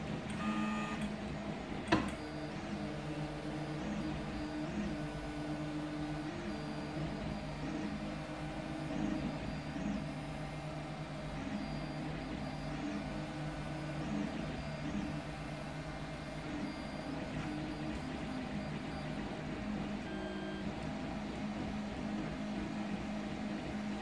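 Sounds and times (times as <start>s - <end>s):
fans whirring: 0.0s - 24.0s.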